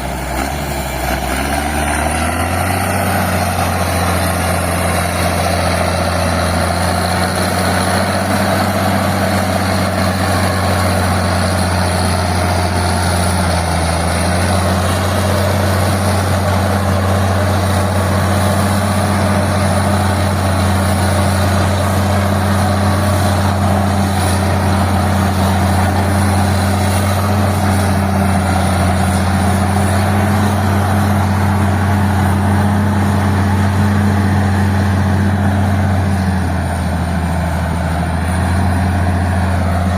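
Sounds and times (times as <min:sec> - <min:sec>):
tractor diesel engine rumbling: 0:00.0 - 0:39.9.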